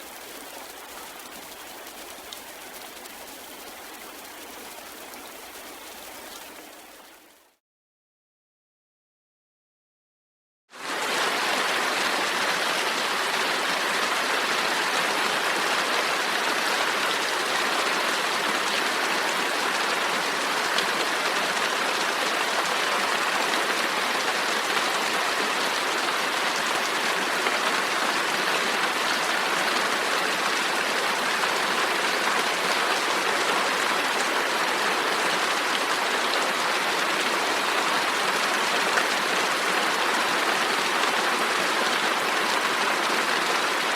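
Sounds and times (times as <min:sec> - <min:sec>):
steady rain falling: 0:00.0 - 0:07.5, 0:10.8 - 0:43.9.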